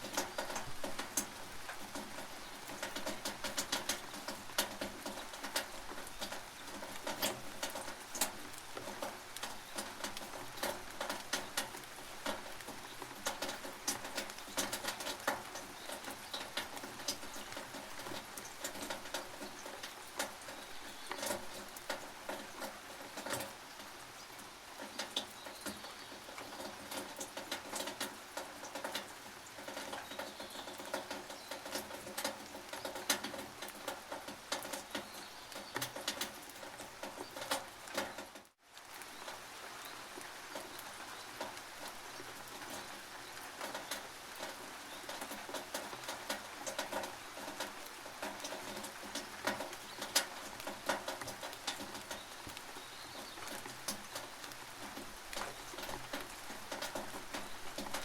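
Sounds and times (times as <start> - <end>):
rain drops on a tin roof: 0.0 - 58.0
rain hiss: 0.0 - 58.0.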